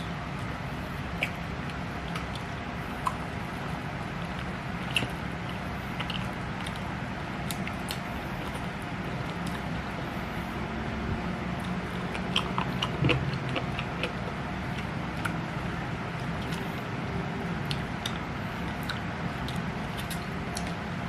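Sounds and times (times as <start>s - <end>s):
mouth chewing food: 0.0s - 10.6s, 11.4s - 21.0s
low background hum: 0.0s - 21.0s.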